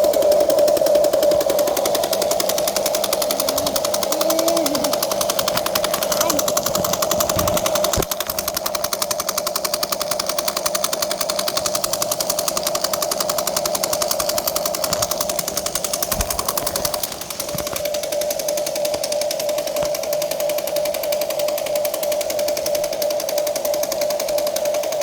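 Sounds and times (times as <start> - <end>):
toy excavator rattle and whine: 0.0 - 25.0.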